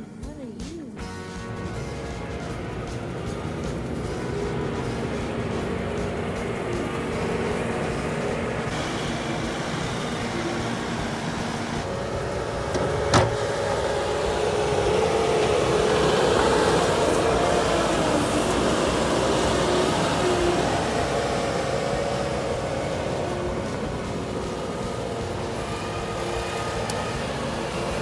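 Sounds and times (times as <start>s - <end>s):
diesel engine working under load: 0.0s - 28.0s.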